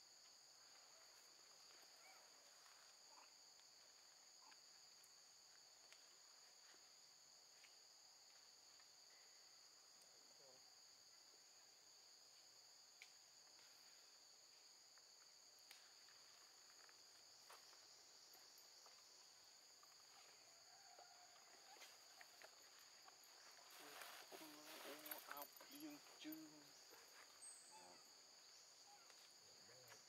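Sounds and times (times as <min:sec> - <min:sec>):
chorus of insects: 0:00.0 - 0:30.0.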